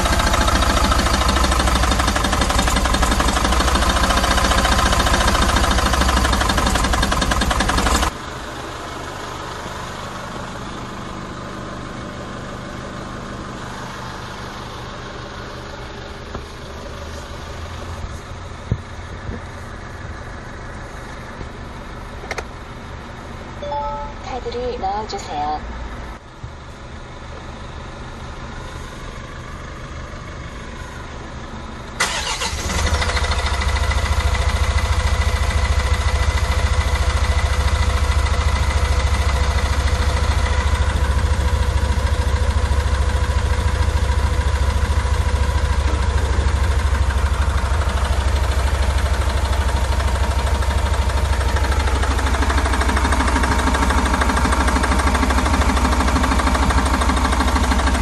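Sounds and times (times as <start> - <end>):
diesel engine starting and idling: 0.0 - 58.0.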